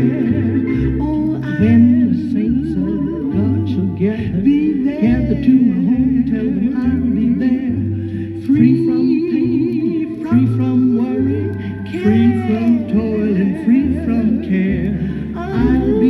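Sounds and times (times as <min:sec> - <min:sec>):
held low accompanying notes: 0:00.0 - 0:16.0
person singing with vibrato: 0:00.0 - 0:16.0.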